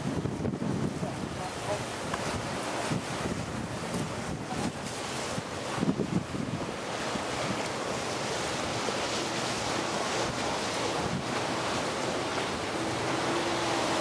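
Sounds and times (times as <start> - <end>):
sea waves against rocks: 0.0 - 14.0
wind buffeting microphone: 0.0 - 14.0.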